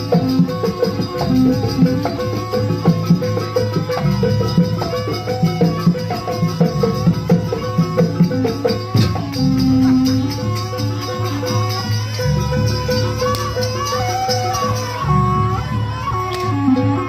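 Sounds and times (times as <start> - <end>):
gamelan ensemble music: 0.0 - 17.0
struck pitched percussion: 0.0 - 17.0.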